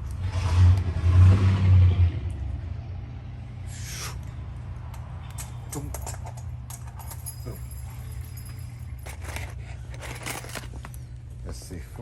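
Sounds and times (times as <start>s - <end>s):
low engine rumble: 0.0s - 12.0s.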